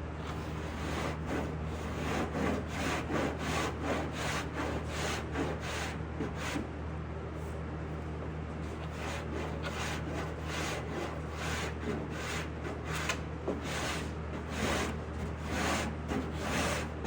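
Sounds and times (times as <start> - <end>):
steady low hum: 0.0 - 17.0
hand sanding scraping rasp: 0.4 - 6.6, 8.9 - 17.0.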